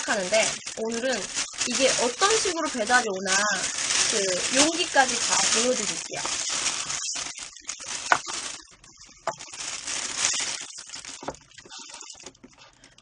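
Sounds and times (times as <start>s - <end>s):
plastic bag rustling: 0.0s - 12.9s.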